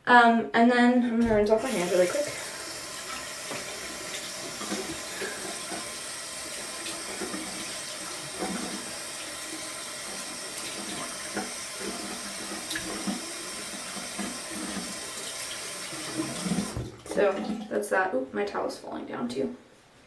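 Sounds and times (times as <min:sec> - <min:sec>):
tap running: 0:01.2 - 0:17.7.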